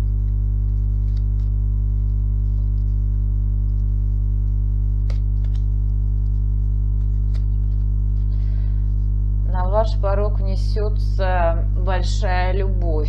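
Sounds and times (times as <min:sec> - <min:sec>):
low drone hum: 0:00.0 - 0:13.0.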